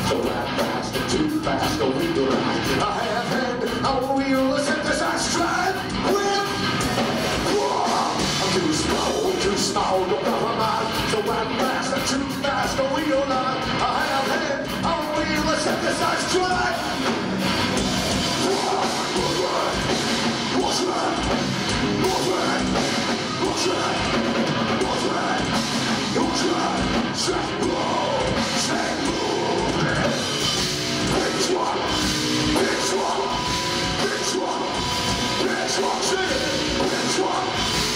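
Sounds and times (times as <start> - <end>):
live metal band playing: 0.0 - 37.9
singer yelling and singing: 0.0 - 37.9.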